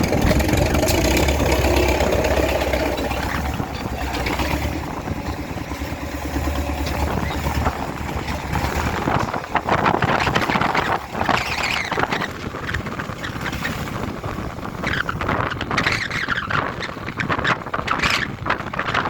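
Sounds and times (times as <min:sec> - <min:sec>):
squealing rattling noise: 0:00.0 - 0:19.0
tractor diesel engine running: 0:00.0 - 0:19.0.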